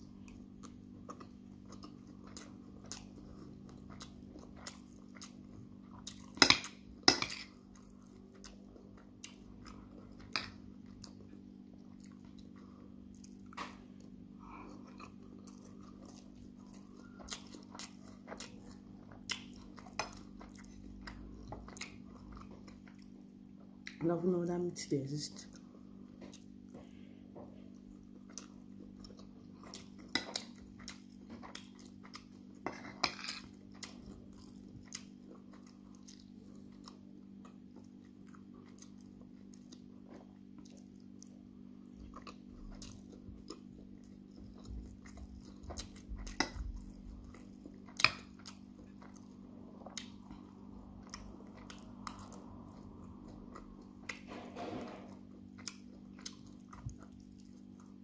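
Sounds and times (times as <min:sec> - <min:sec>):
chewing rice: 0:00.0 - 0:24.1, 0:25.3 - 0:58.0
steady low hum: 0:00.0 - 0:58.0.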